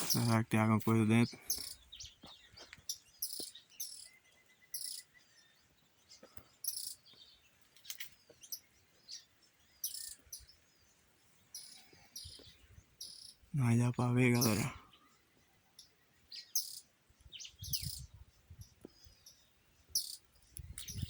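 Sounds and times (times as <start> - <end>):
birds chirping: 0.0 - 21.0
faint bird trill: 1.1 - 10.7, 11.5 - 21.0.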